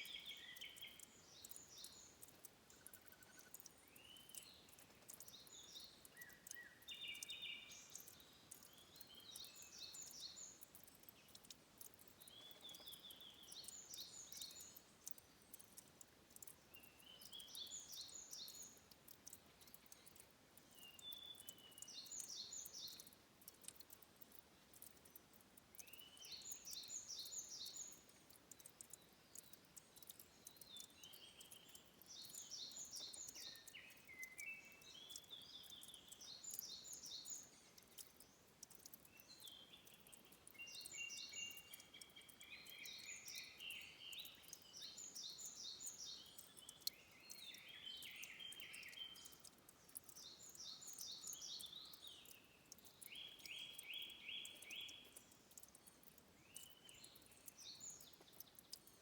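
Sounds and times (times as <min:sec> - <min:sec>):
songbirds trilling: 0:00.0 - 0:15.8, 0:16.4 - 0:24.9, 0:25.8 - 0:59.0
fine high ticks and hiss: 0:00.0 - 0:59.0.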